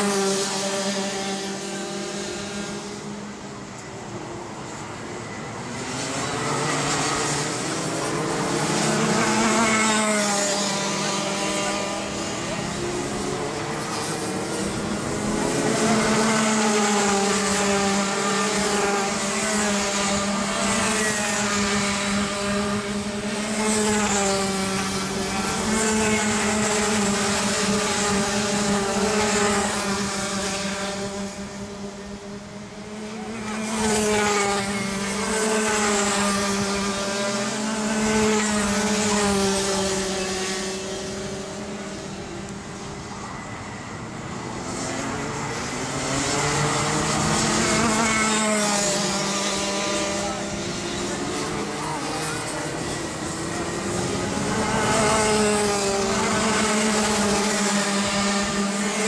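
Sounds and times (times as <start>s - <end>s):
kart engines racing: 0.0s - 59.0s.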